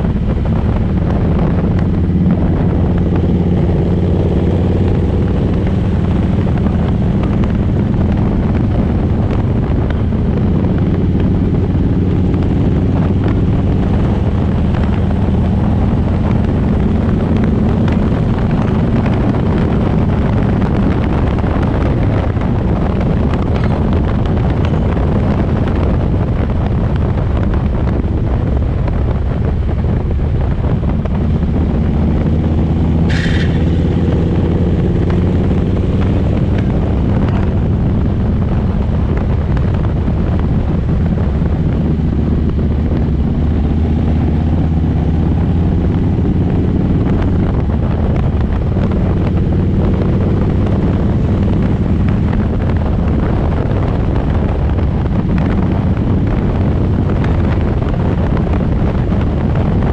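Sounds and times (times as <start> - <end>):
motorcycle engine cruising: 0.0 - 59.9
wind buffeting microphone: 0.0 - 59.9.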